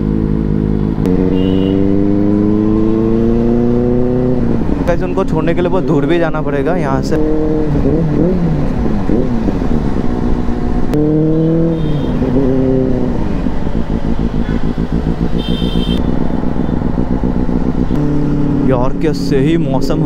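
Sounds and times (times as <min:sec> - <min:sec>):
motorcycle engine running: 0:00.0 - 0:05.8, 0:07.2 - 0:20.0.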